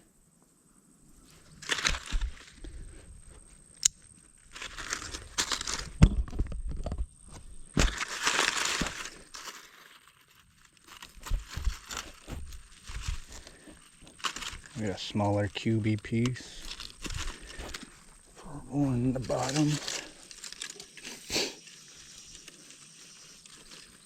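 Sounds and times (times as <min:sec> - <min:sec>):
crinkling and rustling: 0:01.2 - 0:24.0.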